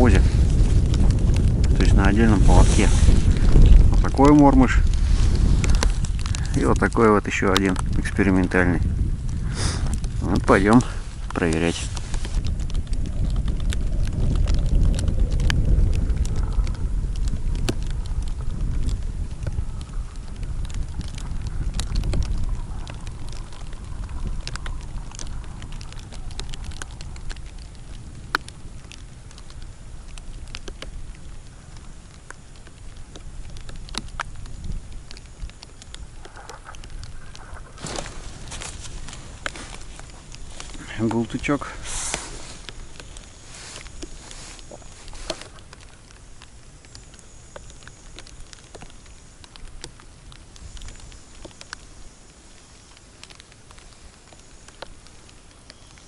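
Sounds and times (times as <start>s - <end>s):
low wind rumble: 0.0s - 56.0s
raindrops ticking: 0.0s - 56.0s.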